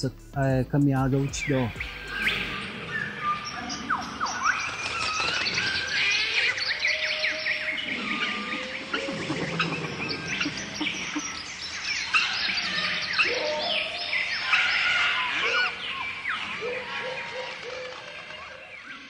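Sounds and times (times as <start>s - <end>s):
birds chirping and whistling: 0.8s - 19.0s.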